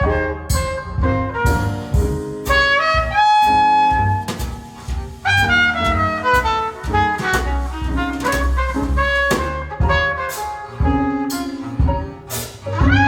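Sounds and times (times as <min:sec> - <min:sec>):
jazz with brass and drums: 0:00.0 - 0:13.0.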